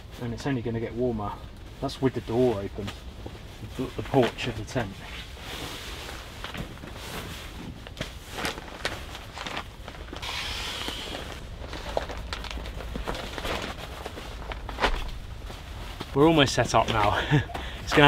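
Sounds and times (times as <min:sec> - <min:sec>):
nylon sleeping bag rustling: 0:01.7 - 0:18.0.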